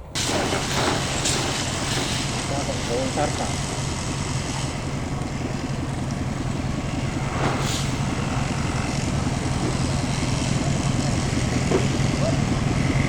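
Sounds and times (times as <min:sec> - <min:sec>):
diesel locomotive engine running: 0:00.0 - 0:13.0
hiss: 0:00.1 - 0:05.7, 0:06.8 - 0:12.9.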